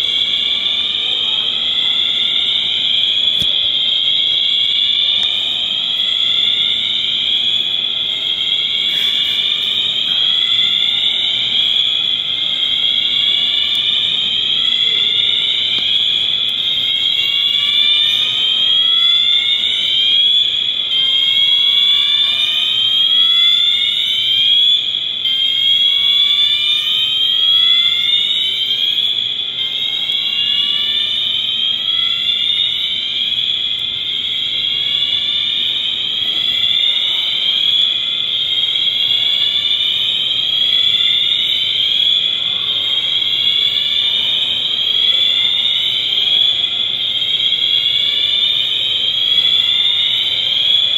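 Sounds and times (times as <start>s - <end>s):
fire alarm rising electronic tone: 0.0s - 50.9s.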